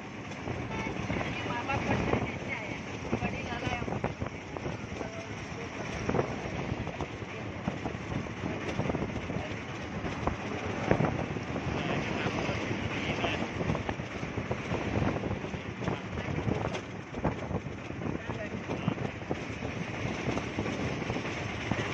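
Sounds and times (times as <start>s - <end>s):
trucks passing on highway: 0.0s - 21.9s
wind buffeting microphone: 0.0s - 21.9s.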